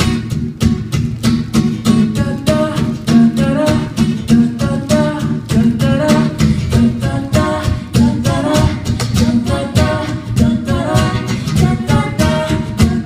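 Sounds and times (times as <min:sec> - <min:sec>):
strummed acoustic guitar: 0:00.0 - 0:13.0
person singing: 0:01.7 - 0:13.0.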